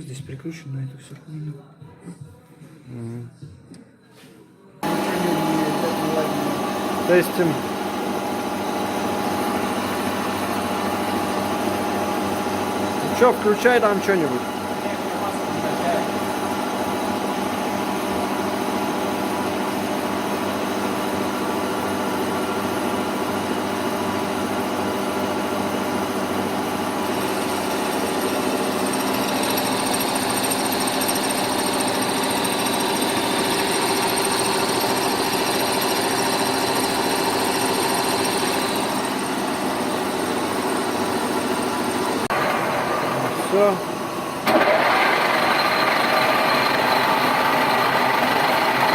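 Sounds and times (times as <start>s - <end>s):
lathe motor and gears humming: 4.8s - 48.9s.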